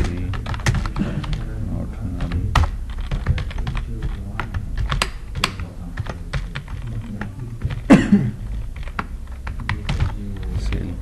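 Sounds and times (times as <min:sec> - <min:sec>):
typing on a computer keyboard: 0:00.0 - 0:11.0.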